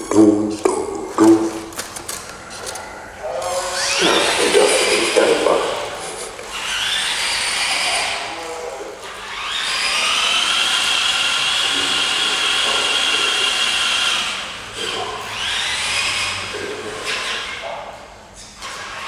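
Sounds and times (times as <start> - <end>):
robot electric motors whining: 1.3 - 17.7.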